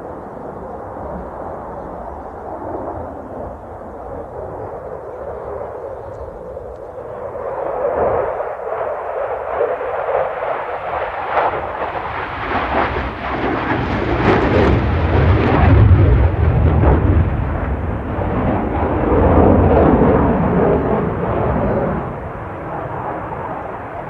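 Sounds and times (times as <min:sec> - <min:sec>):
jet engine roaring: 0:00.0 - 0:24.0.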